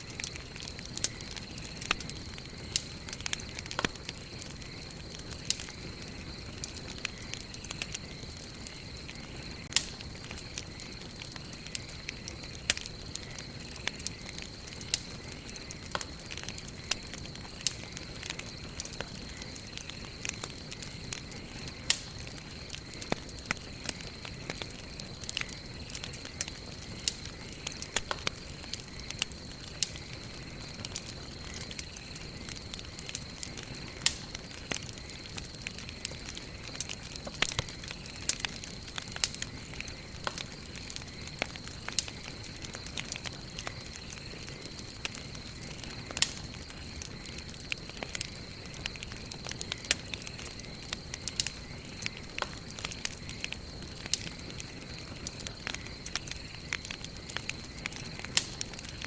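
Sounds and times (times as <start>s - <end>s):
campfire crackling: 0.0s - 59.0s
sharp pops and snaps of fire: 0.0s - 59.0s
soft hiss of flames: 0.0s - 59.0s.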